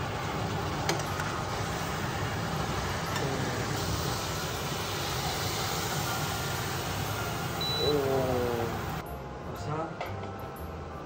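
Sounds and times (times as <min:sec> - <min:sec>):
sauce sizzling in a wok: 0:00.0 - 0:09.0.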